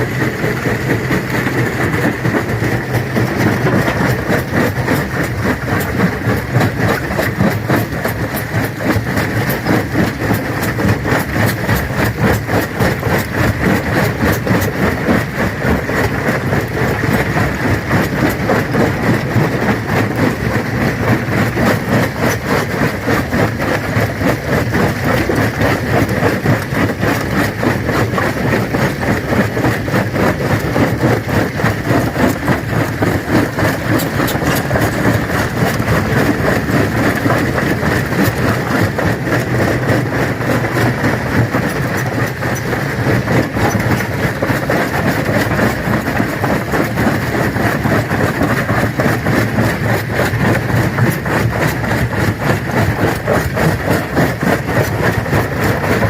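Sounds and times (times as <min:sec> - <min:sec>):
stone crusher machine drone: 0:00.0 - 0:56.0.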